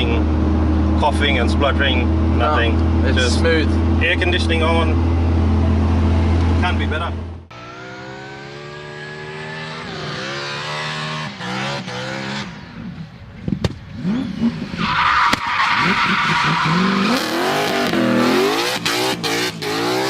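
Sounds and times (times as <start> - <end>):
turbocharged car engine revving: 0.0 - 12.9, 13.9 - 20.0.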